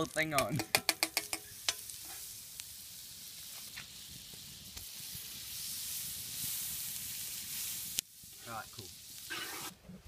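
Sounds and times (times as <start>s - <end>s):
butter sizzling in a pan: 0.0s - 9.8s.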